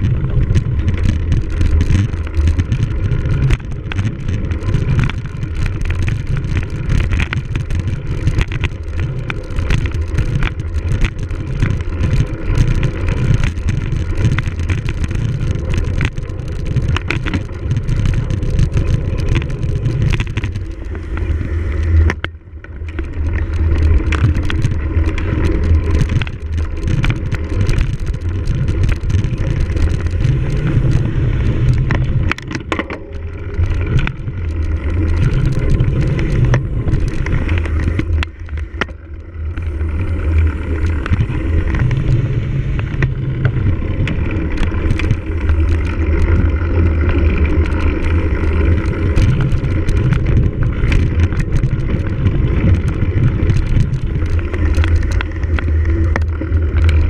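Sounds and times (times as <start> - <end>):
bike clattering over bumps: 0.0 - 57.0
wind rumbling on microphone: 0.0 - 57.0.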